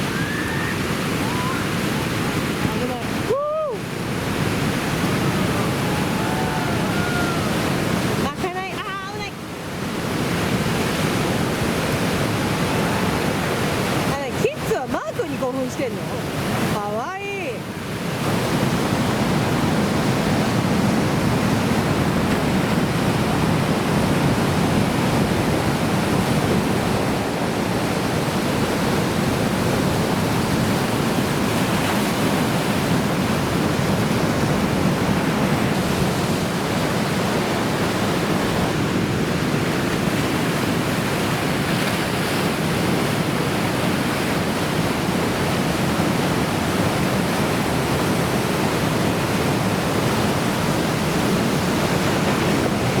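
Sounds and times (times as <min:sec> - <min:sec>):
heavy ocean surf: 0:00.0 - 0:53.0
wind: 0:00.0 - 0:53.0.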